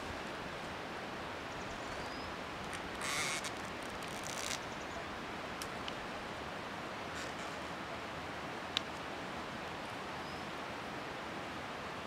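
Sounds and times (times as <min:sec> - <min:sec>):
open-air field hiss: 0:00.0 - 0:12.0.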